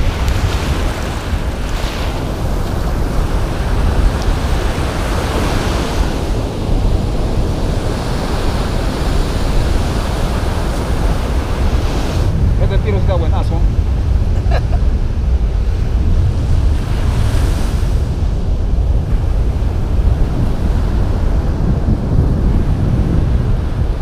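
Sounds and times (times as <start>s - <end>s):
surf washing up beach: 0.0s - 24.0s
wind buffeting microphone: 0.0s - 24.0s.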